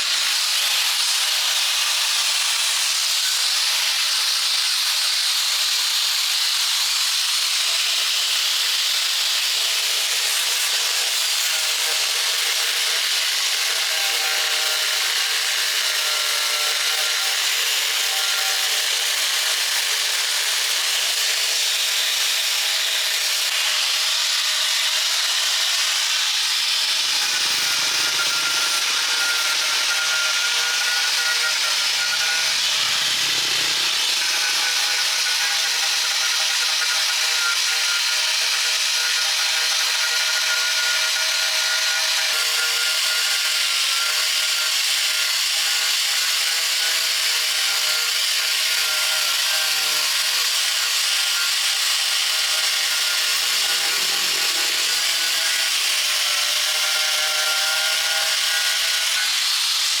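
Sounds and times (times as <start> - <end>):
power tool whirring: 7.6 - 60.0.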